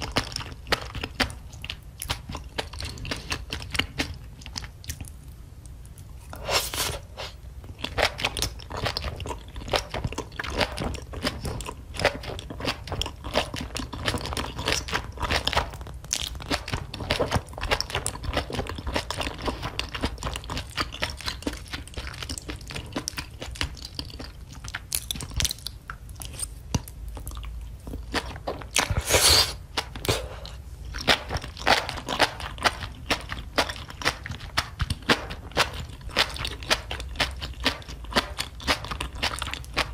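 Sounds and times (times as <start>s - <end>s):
close chewing with wet crunches: 0.0s - 5.2s, 7.6s - 39.9s.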